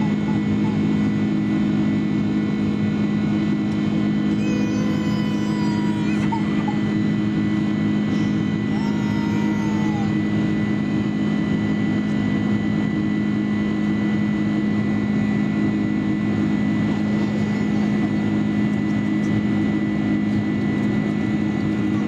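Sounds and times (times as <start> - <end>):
jet engine cabin drone: 0.0 - 22.0.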